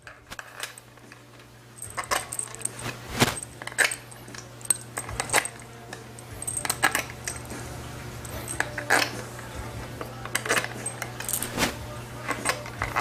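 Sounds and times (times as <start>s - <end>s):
metal bolts clinking: 0.0s - 7.6s, 8.2s - 11.6s
faint steady hum: 0.0s - 13.0s.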